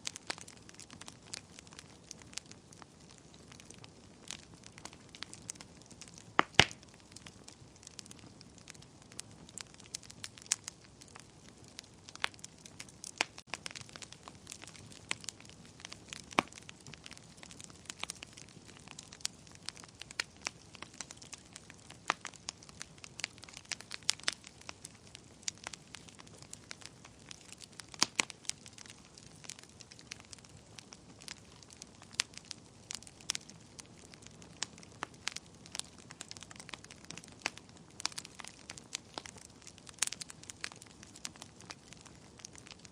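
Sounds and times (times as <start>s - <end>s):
low steady hiss: 0.0s - 42.9s
wood fire crackling and popping: 0.0s - 42.9s.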